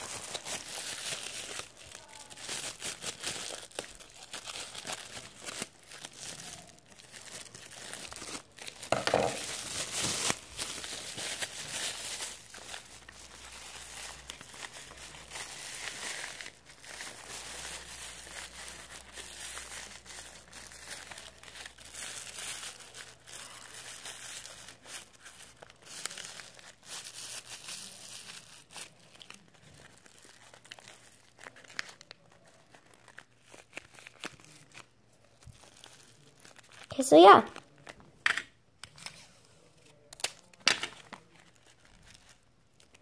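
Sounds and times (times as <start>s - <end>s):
paper crinkling and rustling: 0.0s - 38.0s, 38.8s - 43.0s.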